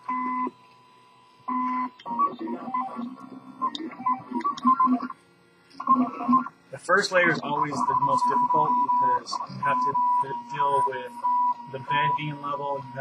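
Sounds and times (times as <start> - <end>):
printer stepper motors whining: 1.4 - 13.0.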